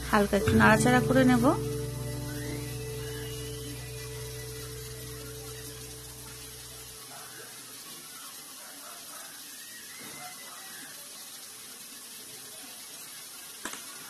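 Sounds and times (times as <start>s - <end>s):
gravy sizzling and bubbling: 0.0s - 14.0s.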